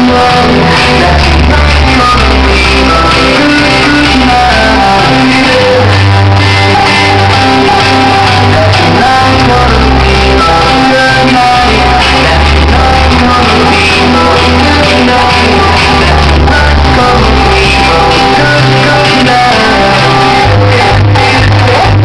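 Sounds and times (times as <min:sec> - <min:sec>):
heavy bass notes: 0:00.0 - 0:22.0
loud music with singing: 0:00.0 - 0:22.0.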